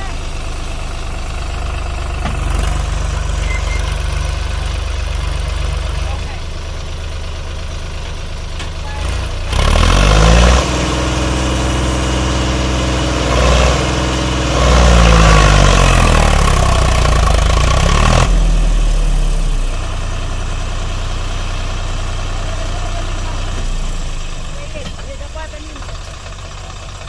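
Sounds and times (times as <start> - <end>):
tractor diesel engine revving: 0.0 - 27.0.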